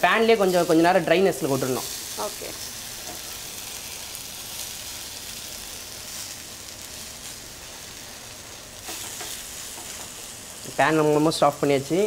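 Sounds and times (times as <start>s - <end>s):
fish sizzling in a grill pan: 0.0s - 12.0s.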